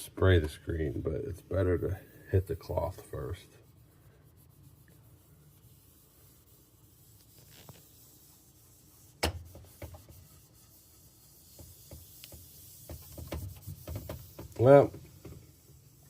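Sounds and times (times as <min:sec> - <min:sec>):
cloth rubbing on screen: 0:00.7 - 0:16.0.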